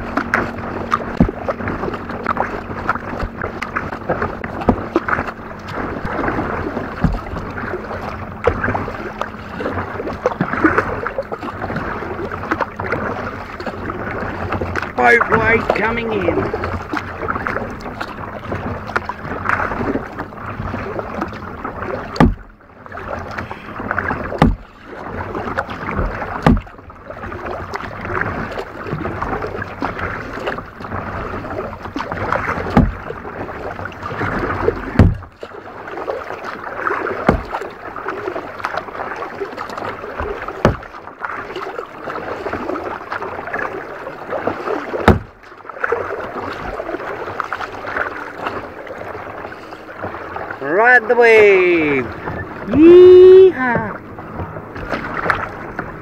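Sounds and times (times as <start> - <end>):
paddle knocking: 0.0 - 56.0
water splashing around kayak hull: 0.0 - 56.0.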